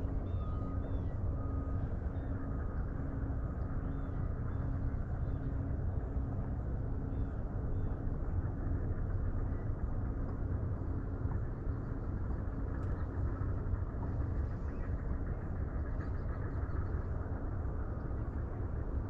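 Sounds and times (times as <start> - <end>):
faint steady hum: 0.0 - 19.0
low outdoor rumble: 0.0 - 19.0.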